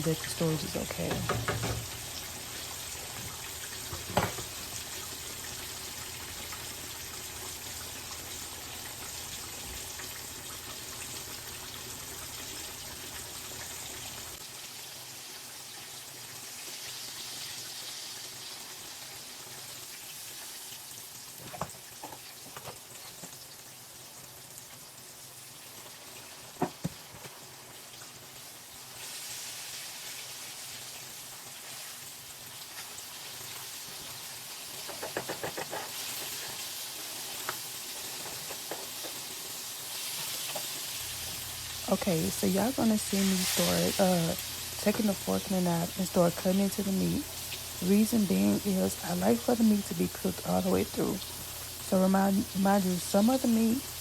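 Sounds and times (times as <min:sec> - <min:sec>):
meat sizzling in a skillet: 0:00.0 - 0:54.0.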